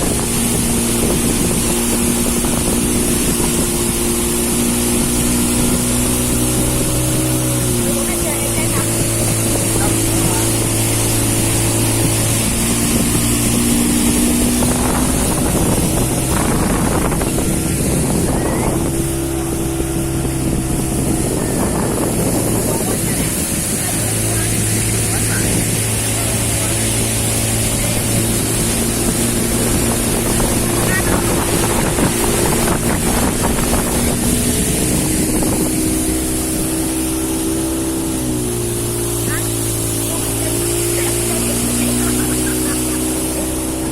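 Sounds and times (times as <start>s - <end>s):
wind noise on microphone: 0.0s - 40.6s
outboard motor running: 0.0s - 43.9s
water rushing: 0.0s - 43.9s.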